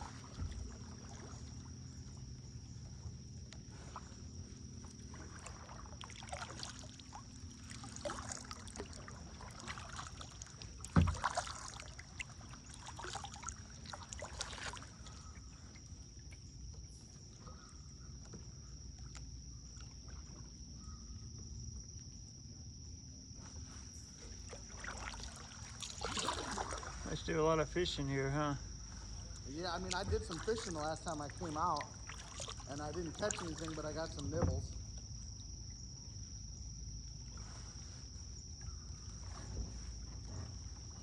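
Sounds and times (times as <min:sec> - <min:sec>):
kayak paddle splashing in water: 0:00.0 - 0:22.6, 0:23.4 - 0:27.6, 0:28.6 - 0:41.0.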